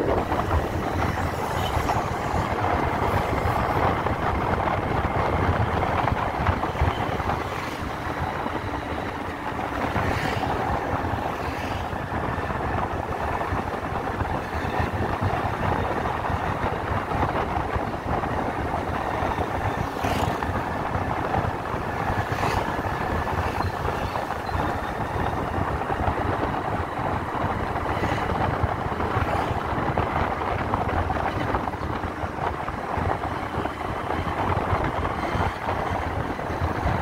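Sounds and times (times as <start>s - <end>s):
wind on microphone: 0.0s - 37.0s.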